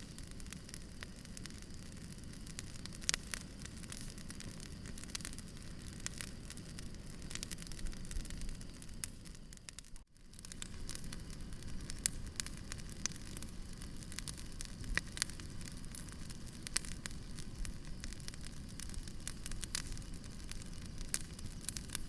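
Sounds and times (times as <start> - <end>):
campfire flames burning: 0.0 - 22.0
fire crackling and popping: 0.0 - 22.0.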